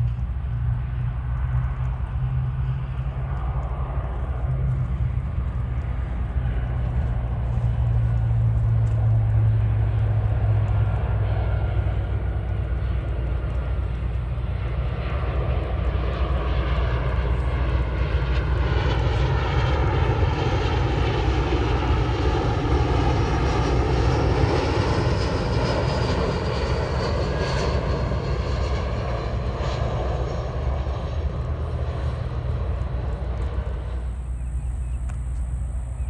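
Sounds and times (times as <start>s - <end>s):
high engine whine: 0.0s - 36.0s
jet airliner passing by: 0.0s - 36.0s
low engine rumble: 0.0s - 36.0s.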